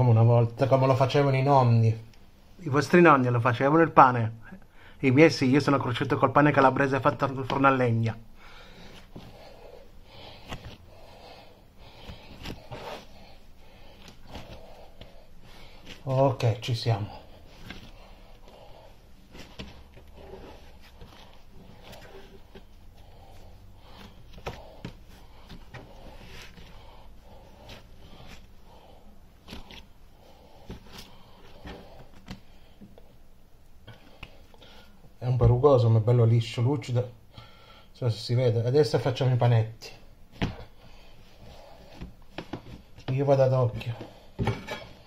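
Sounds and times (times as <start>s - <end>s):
hands kneading dough: 5.3s - 35.2s, 38.7s - 45.0s.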